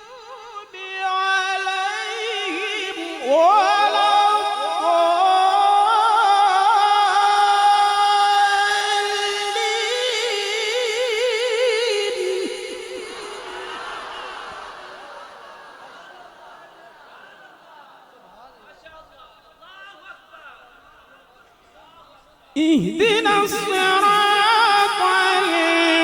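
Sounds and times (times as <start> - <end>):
man chanting recitation: 0.0 - 13.8, 18.5 - 26.0.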